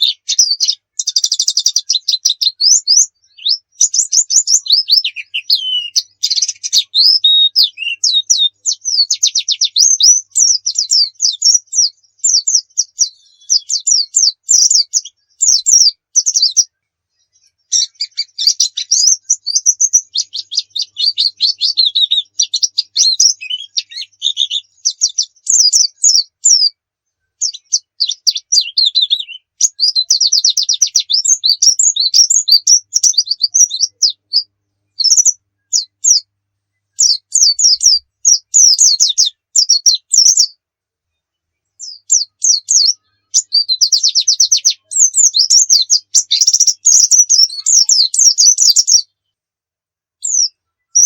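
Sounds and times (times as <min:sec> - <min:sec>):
bird twittering and trilling: 0:00.0 - 0:49.2, 0:50.2 - 0:51.0.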